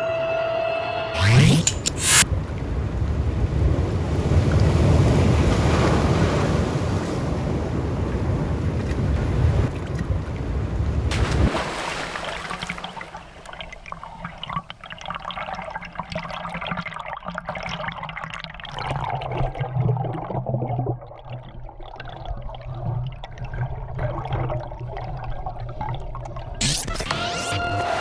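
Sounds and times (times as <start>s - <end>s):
muffled water sloshing and bubbling: 2.1s - 26.6s.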